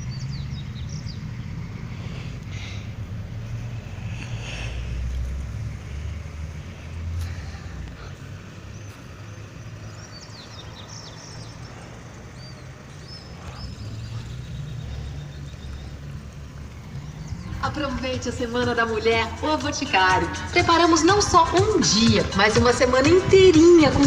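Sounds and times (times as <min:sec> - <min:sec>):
small birds chirping: 0:00.0 - 0:24.0
street and vehicle rumble: 0:00.0 - 0:24.0.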